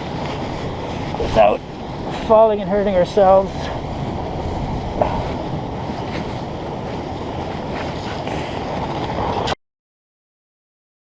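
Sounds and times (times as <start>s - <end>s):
river rapids rushing: 0.0s - 9.5s.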